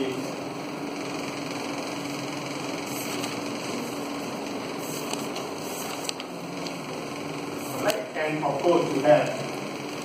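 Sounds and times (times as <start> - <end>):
machine-like room hum and hiss: 0.0 - 10.0.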